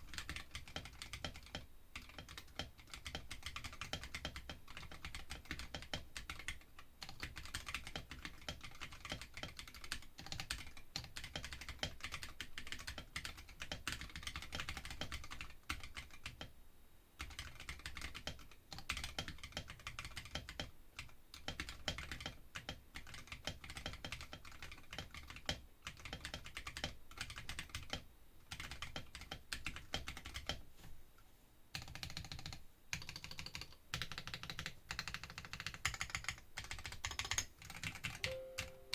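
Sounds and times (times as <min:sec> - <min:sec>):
typing on mechanical keyboard: 0:00.0 - 0:16.5, 0:17.2 - 0:30.6, 0:31.7 - 0:38.9.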